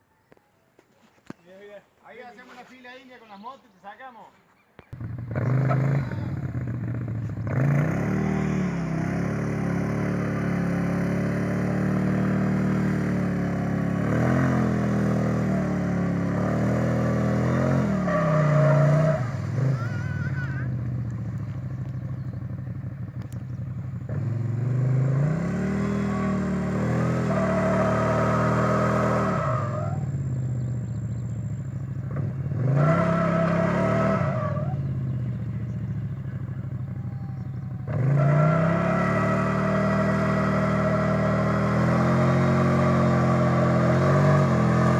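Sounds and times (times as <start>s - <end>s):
off-road vehicle engine revving: 4.9s - 44.9s.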